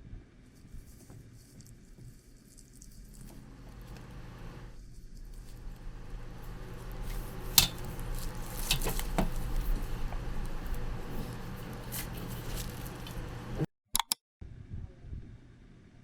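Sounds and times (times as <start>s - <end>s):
low steady hum: 0.0s - 13.7s.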